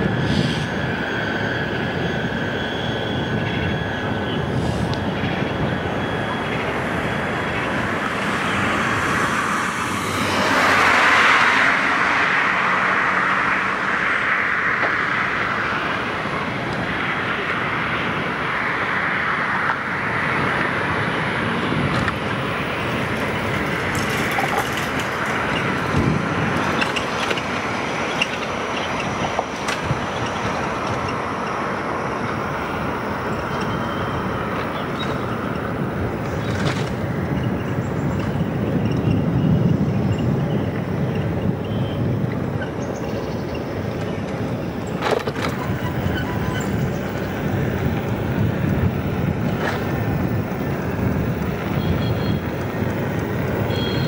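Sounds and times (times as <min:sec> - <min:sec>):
tyre and wind road noise: 0:00.0 - 0:54.0.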